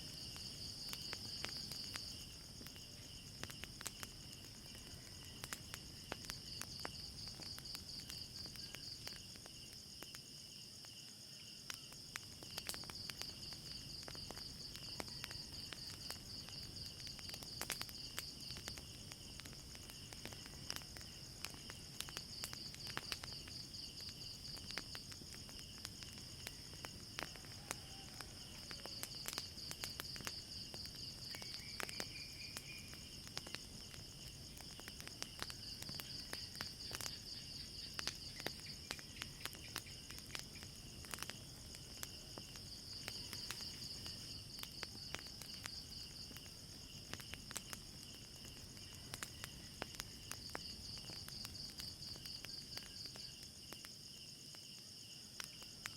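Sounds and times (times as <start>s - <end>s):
crickets chirping: 0.0s - 55.9s
wood fire crackling: 0.0s - 55.9s.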